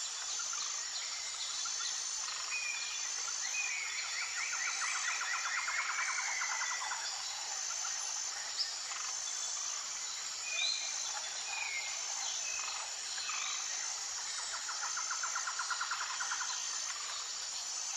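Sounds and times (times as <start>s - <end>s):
insect hiss: 0.0s - 17.9s.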